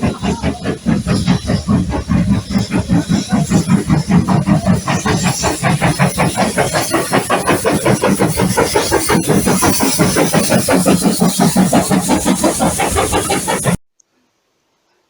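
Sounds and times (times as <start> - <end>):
steam locomotive chuffing: 0.0 - 13.8.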